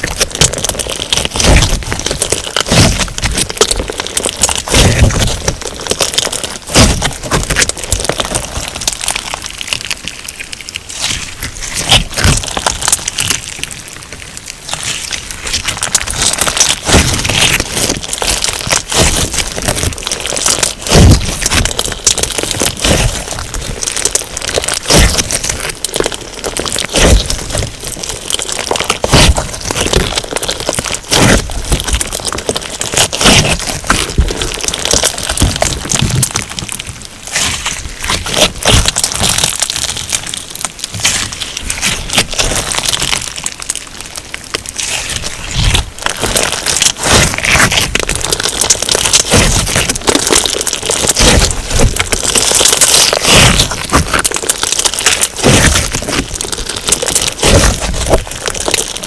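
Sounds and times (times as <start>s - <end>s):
slime beads crunching: 0.0s - 59.0s
slime popping: 0.0s - 59.0s.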